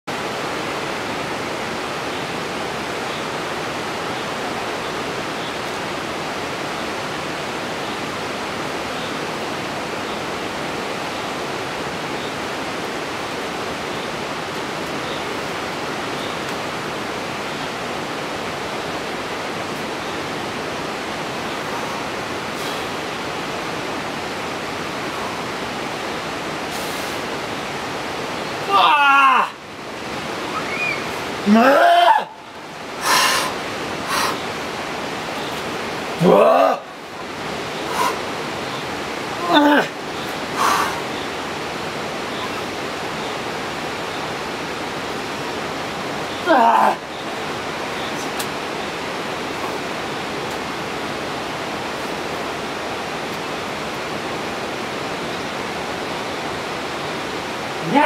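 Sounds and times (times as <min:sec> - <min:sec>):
rushing stream water: 0:00.0 - 0:58.0.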